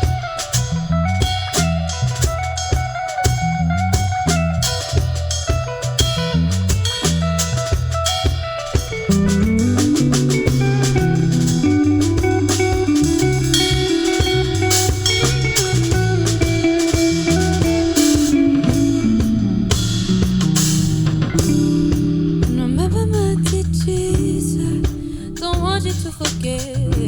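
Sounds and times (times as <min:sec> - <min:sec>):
cymbal strikes: 0:00.0 - 0:23.0
live band playing: 0:00.0 - 0:27.0.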